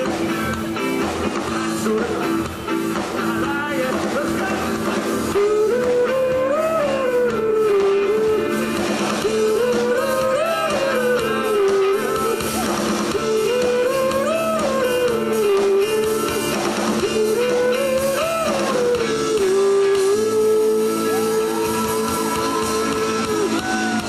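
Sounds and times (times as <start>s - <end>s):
lead guitar line: 0.0s - 24.0s
live rock band playing: 0.0s - 24.0s
person singing: 0.0s - 24.0s.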